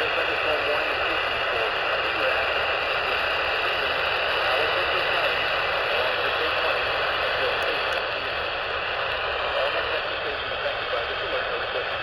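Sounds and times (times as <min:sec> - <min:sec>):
faint radio voice broadcast: 0:00.0 - 0:12.0
radio static hiss: 0:00.0 - 0:12.0.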